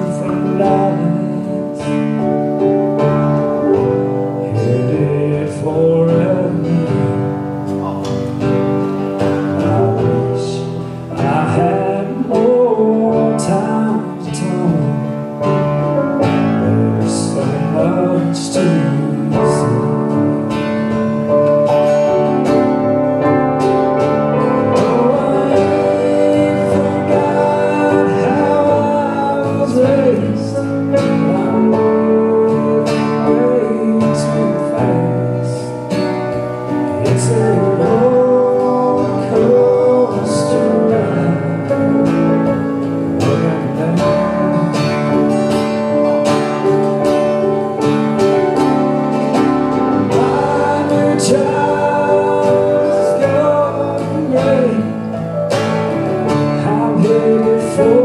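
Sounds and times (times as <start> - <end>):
live band playing slow song: 0.0 - 58.0
person singing: 0.0 - 58.0.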